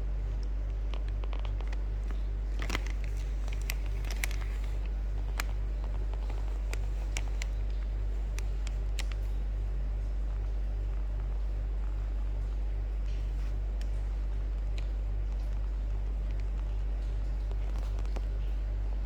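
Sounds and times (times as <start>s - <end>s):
small clicks and crackles: 0.0s - 19.0s.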